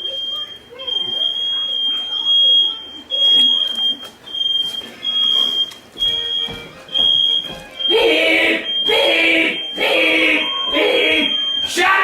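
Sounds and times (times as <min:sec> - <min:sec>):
smoke alarm beeping: 0:00.0 - 0:12.0.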